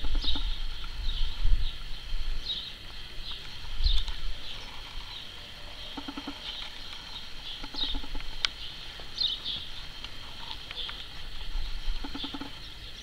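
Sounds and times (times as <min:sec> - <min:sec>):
birds chirping: 0:00.0 - 0:13.0
low pulsing bird call: 0:00.0 - 0:13.0
steady high hiss: 0:00.0 - 0:13.0.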